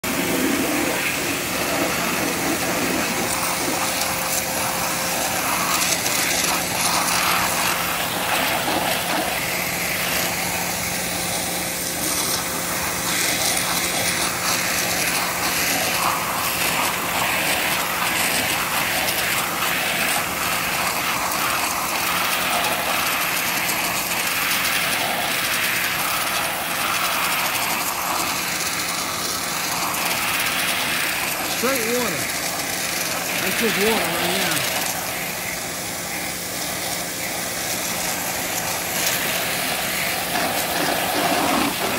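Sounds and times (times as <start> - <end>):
pressure washer motor humming: 0.0 - 41.9
water jet hissing on siding: 0.0 - 41.9.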